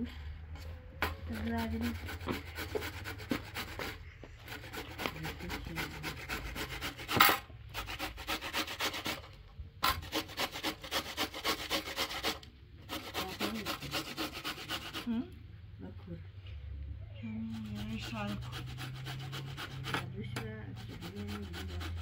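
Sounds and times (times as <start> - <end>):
fruit rasping on metal grater: 1.0 - 15.3, 17.5 - 22.0.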